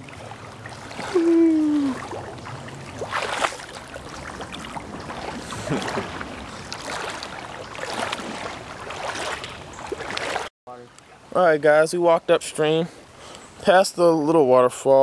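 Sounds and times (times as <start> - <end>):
flowing water rushing: 0.0 - 13.2
water splashing in shallow creek: 0.0 - 13.2.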